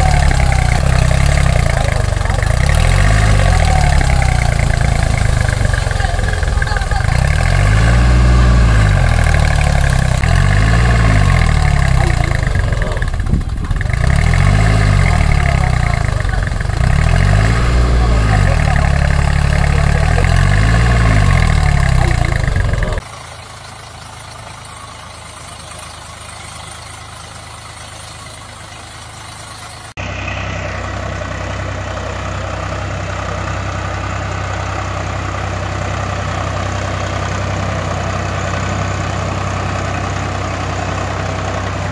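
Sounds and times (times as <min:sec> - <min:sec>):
engine idling drone: 0:00.0 - 0:41.9
tractor engine revving: 0:00.0 - 0:41.9.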